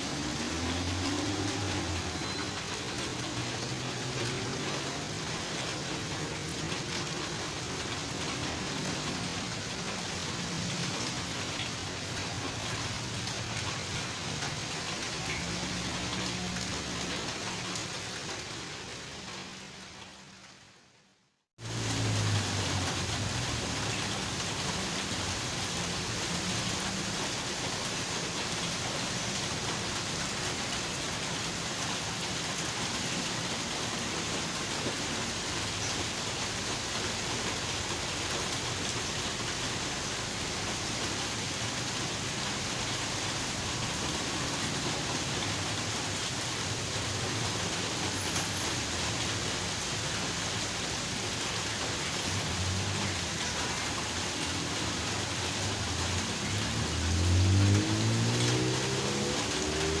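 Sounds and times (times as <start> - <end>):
heavy rain pouring: 0.0 - 60.0.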